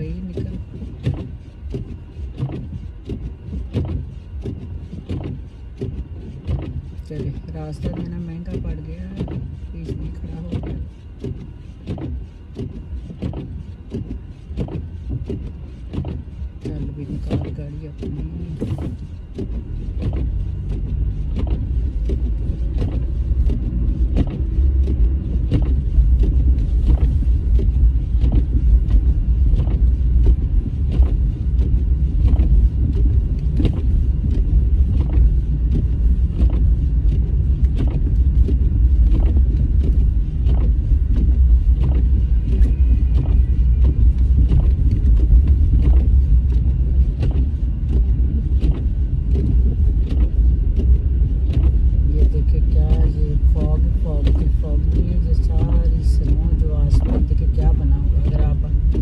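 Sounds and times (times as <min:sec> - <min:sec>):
road and engine rumble: 0:00.0 - 0:59.0.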